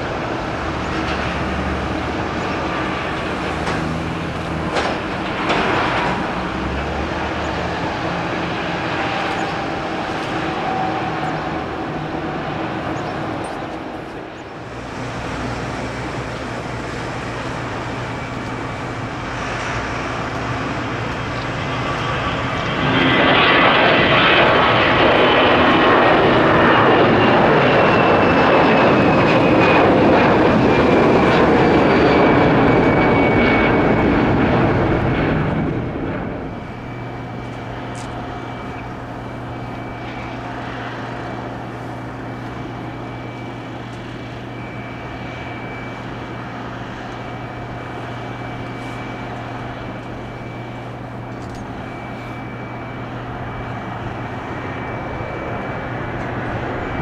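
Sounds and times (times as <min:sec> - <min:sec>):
jet engines roaring at take-off: 0:00.0 - 0:57.0
landing jet whine with low hum: 0:00.0 - 0:57.0.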